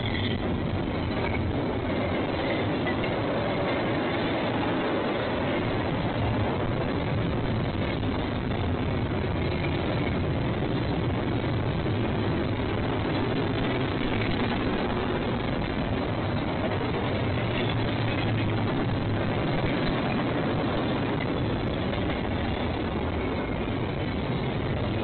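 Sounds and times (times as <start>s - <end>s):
train rolling past: 0.0s - 25.0s.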